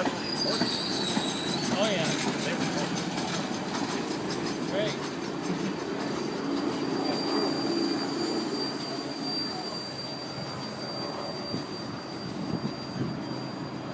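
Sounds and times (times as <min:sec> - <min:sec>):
high-pitched squeal: 0:00.0 - 0:13.9
train rumbling past: 0:00.0 - 0:13.9.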